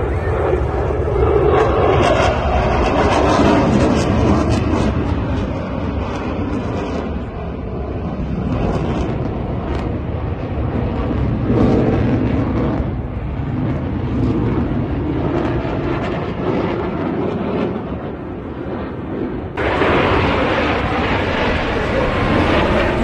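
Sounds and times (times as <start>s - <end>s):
jet engine overhead: 0.0s - 23.0s.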